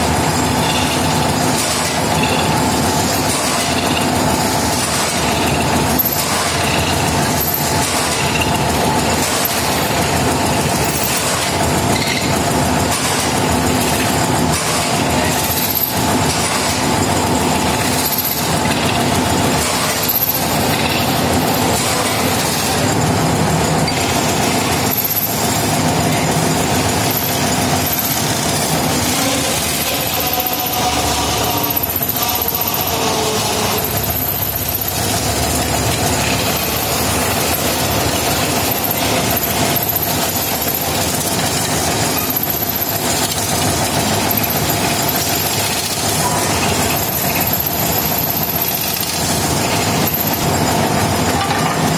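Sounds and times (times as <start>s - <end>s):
metal lathe running: 0.0s - 51.9s.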